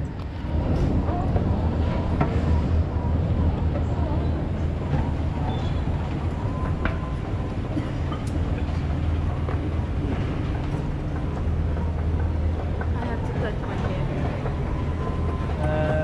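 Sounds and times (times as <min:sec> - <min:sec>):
escalator humming: 0:00.0 - 0:16.0.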